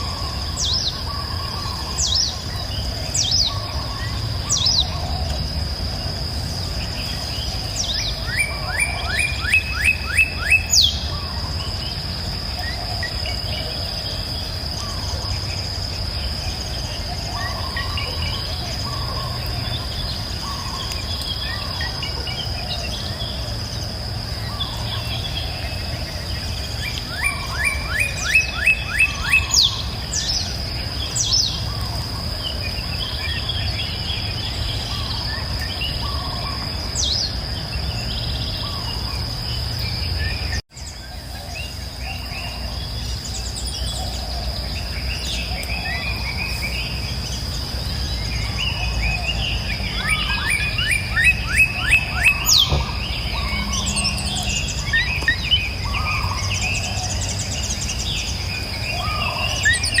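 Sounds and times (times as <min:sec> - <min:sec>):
high insect drone: 0:00.0 - 1:00.0
songbirds chirping and singing: 0:00.0 - 1:00.0.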